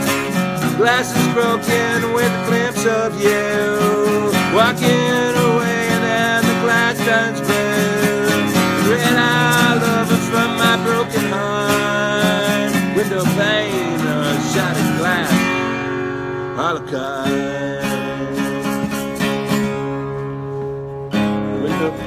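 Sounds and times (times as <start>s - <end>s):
person singing wordlessly: 0.0s - 15.9s, 16.5s - 19.1s
acoustic guitar strumming: 0.0s - 22.0s.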